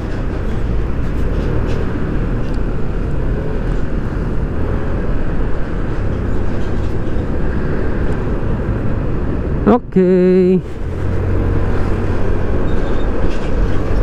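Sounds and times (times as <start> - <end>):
scooter road noise: 0.0 - 14.0.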